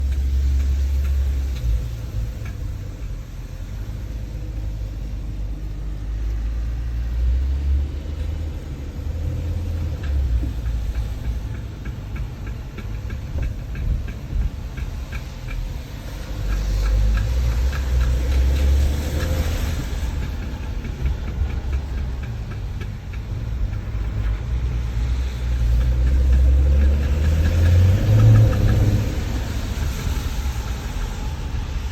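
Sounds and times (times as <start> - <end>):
low vehicle rumble: 0.0 - 31.9.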